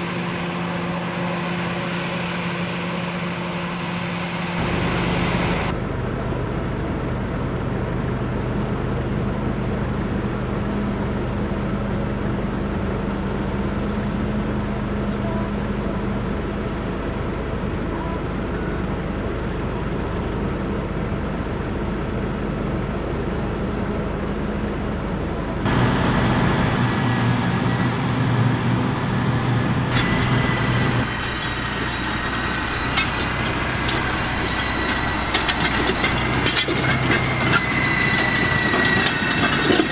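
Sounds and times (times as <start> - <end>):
heavy diesel machinery engines running: 0.0 - 39.9
loud rough engine: 0.0 - 39.9.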